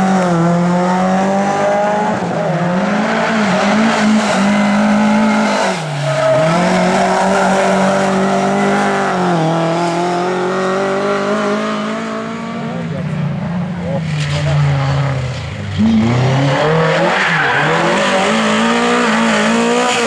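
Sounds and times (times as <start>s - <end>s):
race car engine at high revs: 0.0s - 20.0s.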